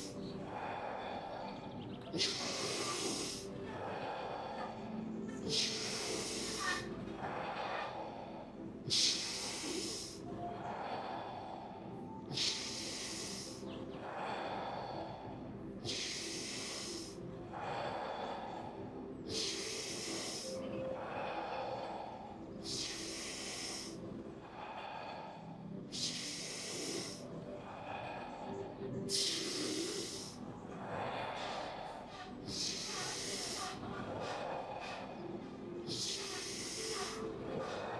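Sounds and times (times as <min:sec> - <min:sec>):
person breathing deeply: 0:00.0 - 0:37.9.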